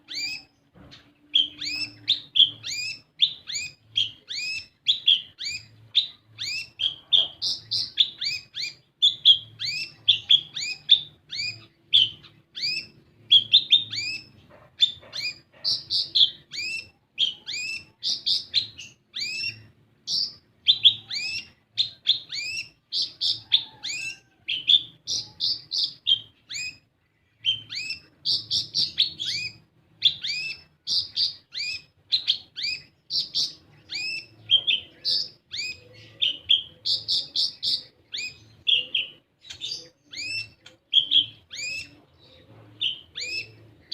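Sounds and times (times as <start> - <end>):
sunbird high sharp chirps: 0.0 - 0.6, 1.3 - 43.9.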